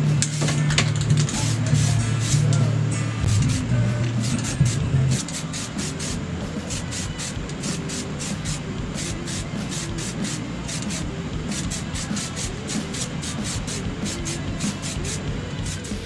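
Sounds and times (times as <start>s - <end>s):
spray paint can hissing in bursts: 0.0s - 16.0s.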